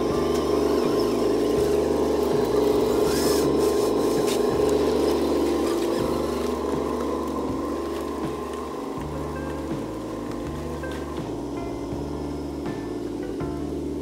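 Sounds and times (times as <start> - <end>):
background music with low bass: 0.0 - 14.0
electric motor whine: 0.0 - 14.0.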